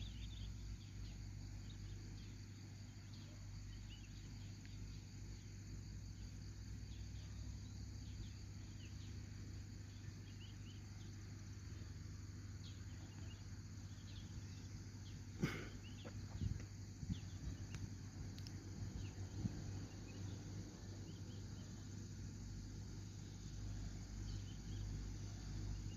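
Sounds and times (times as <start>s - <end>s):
insects: 0.0s - 25.9s
low steady hum: 0.0s - 25.9s.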